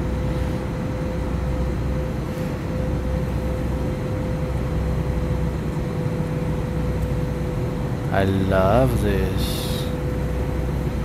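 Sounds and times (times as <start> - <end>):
jet engine rumble: 0.0 - 11.0
steady hum: 0.0 - 11.0.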